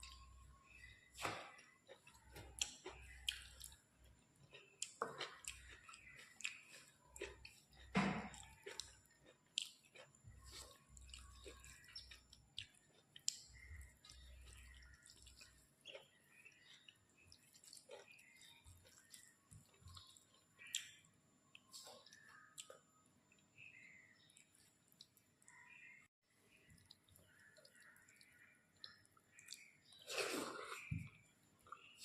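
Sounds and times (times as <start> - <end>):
wet chewing sounds: 0.0 - 32.0.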